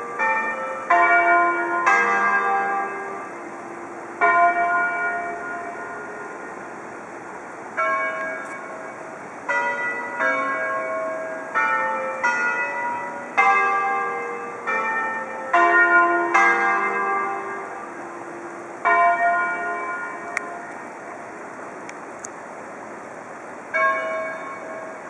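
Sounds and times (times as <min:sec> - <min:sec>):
church bells ringing: 0:00.0 - 0:21.8, 0:23.5 - 0:25.0.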